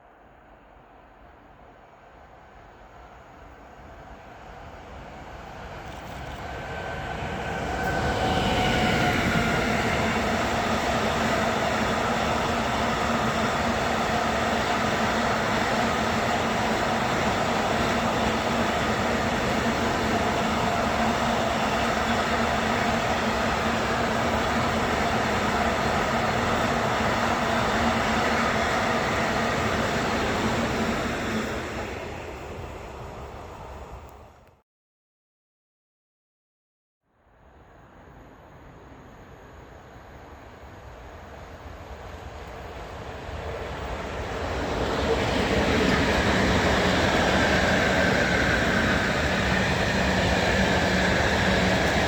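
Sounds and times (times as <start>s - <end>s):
train whining tones: 2.1s - 34.4s, 37.6s - 52.0s.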